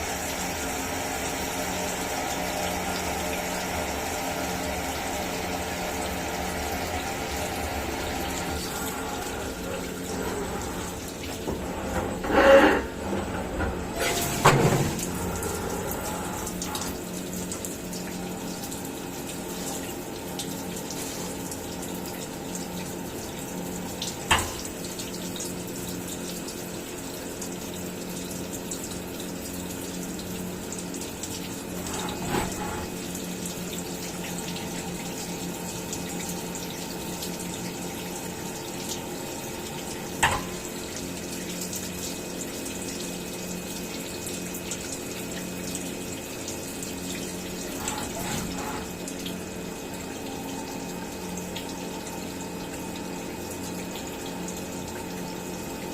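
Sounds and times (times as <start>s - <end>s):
milling machine humming and hissing: 0.0s - 55.9s.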